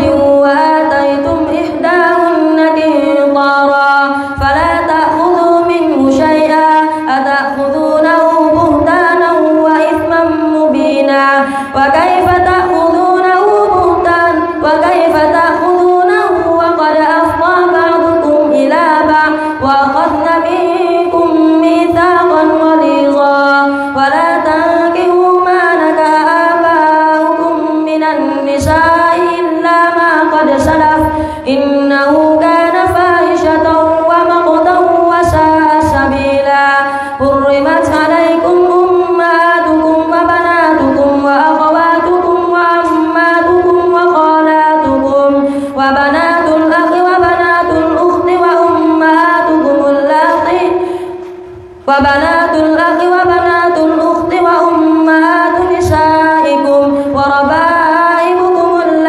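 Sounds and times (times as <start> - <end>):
boy chanting over microphone: 0.0 - 50.8, 51.9 - 59.0.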